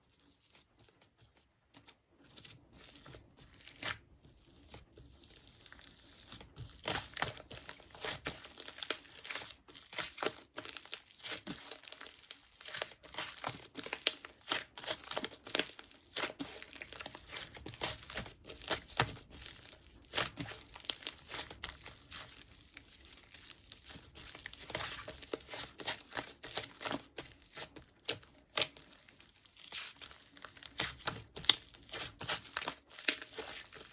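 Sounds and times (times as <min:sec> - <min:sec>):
wrapping material crinkling: 0:00.1 - 0:33.9.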